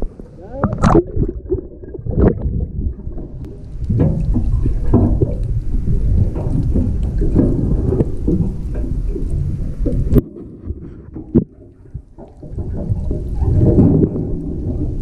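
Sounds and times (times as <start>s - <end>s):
muffled underwater rumble: 0.0s - 15.0s
water splash: 0.0s - 15.0s.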